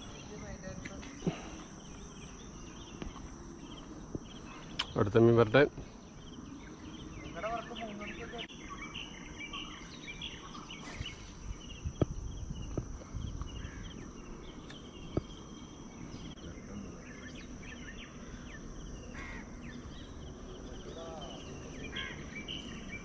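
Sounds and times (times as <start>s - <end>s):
birds chirping: 0.0s - 23.0s
high insect drone: 0.0s - 23.0s.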